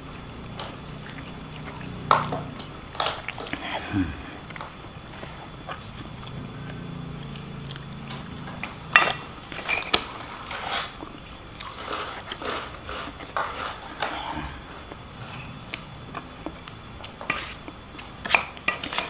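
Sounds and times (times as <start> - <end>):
low steady hum: 0.0 - 19.0
person chewing: 0.6 - 19.0.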